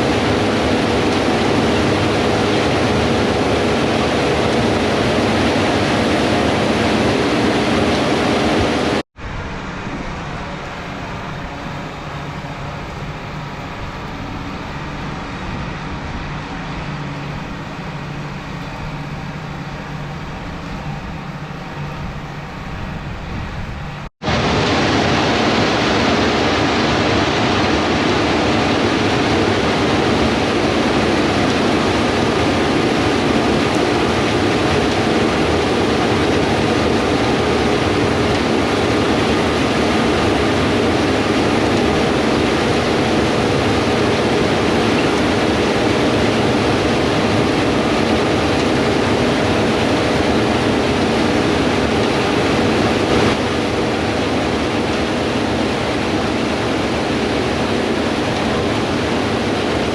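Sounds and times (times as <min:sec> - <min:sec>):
harvest machinery droning: 0:00.0 - 0:59.9.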